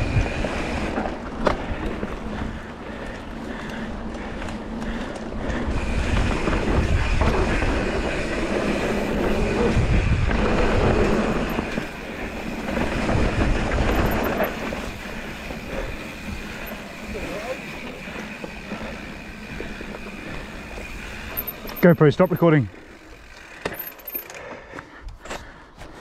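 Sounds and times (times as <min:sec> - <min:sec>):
tyres rumbling over dirt: 0:00.0 - 0:24.2
bike rattling over bumps: 0:00.0 - 0:26.0.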